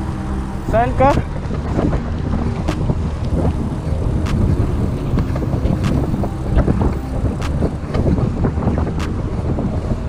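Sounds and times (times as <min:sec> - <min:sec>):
tyre noise on road: 0:00.0 - 0:10.0
wind buffeting microphone: 0:00.0 - 0:10.0.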